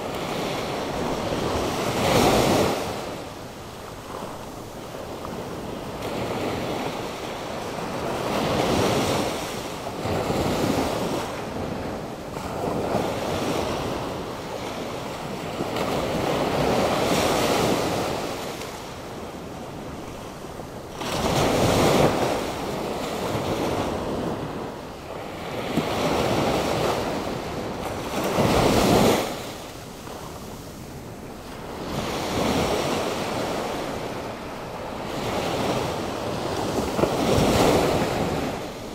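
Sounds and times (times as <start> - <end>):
surf breaking on a beach: 0.0 - 38.9
wind: 0.0 - 38.9.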